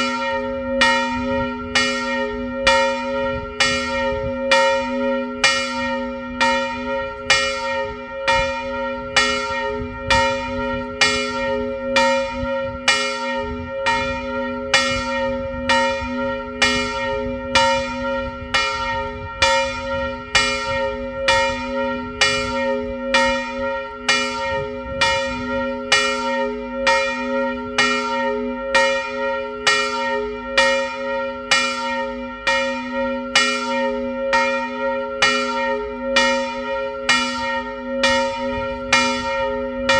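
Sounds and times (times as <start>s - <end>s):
large church bell ringing: 0.0s - 39.9s.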